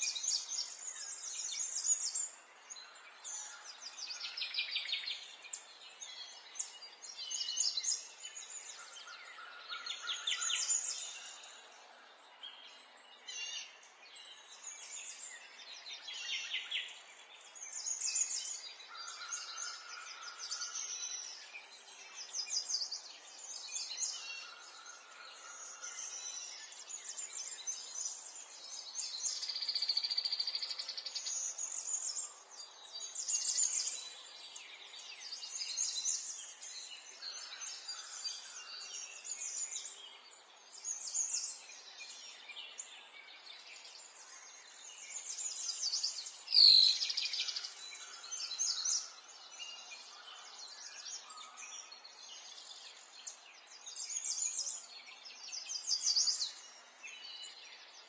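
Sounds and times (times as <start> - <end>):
songbirds singing trills: 0.0 - 58.0.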